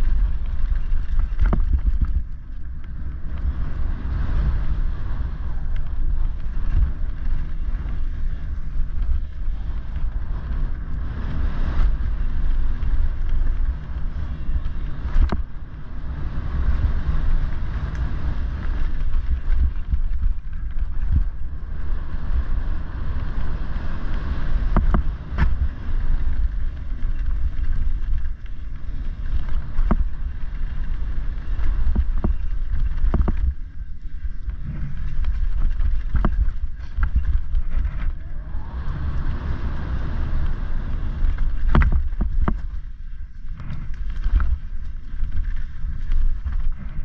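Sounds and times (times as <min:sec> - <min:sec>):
bike rattling over bumps: 0:00.0 - 0:47.0
tyres rolling over leaves: 0:00.0 - 0:47.0
wind buffeting microphone: 0:00.0 - 0:47.0.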